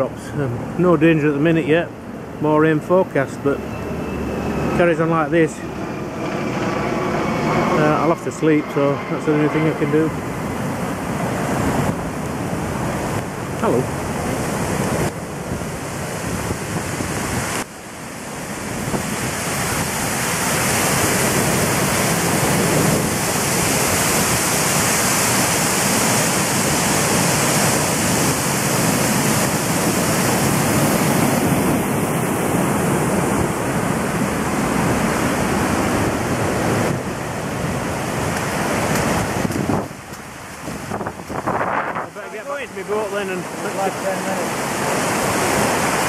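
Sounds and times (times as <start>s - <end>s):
water rushing over lock gates: 0.0s - 46.0s
wind on microphone: 3.6s - 46.0s.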